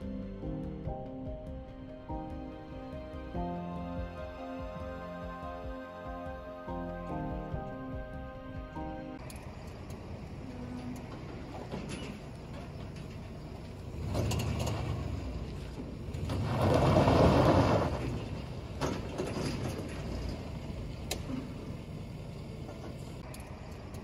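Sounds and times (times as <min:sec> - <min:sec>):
trailer rolling: 0:00.0 - 0:24.0
truck engine: 0:00.0 - 0:24.0.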